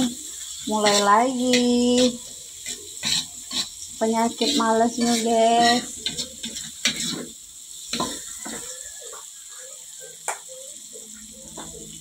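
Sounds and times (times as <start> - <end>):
metal spatula scraping a wok: 0.0 - 10.1
paste sizzling in oil: 0.0 - 12.0.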